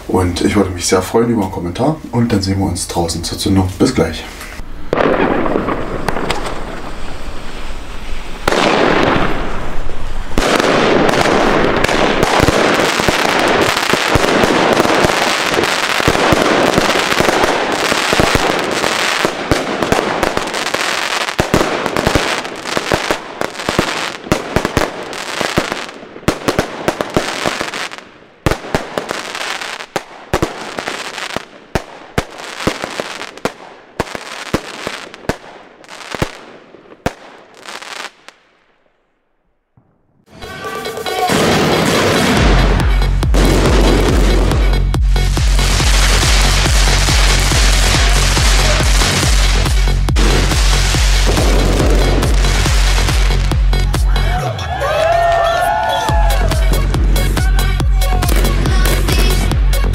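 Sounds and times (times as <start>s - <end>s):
firework bangs: 4.7s - 39.0s, 39.7s - 54.1s
fireworks shots and bursts: 4.7s - 39.0s, 39.8s - 54.6s, 55.7s - 59.9s.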